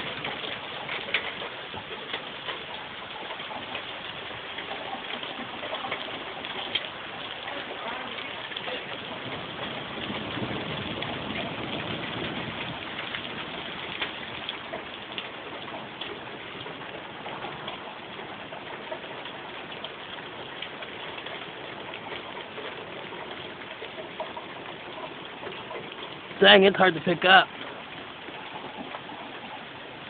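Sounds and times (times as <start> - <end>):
hail and rain pelting down: 0.0 - 30.0.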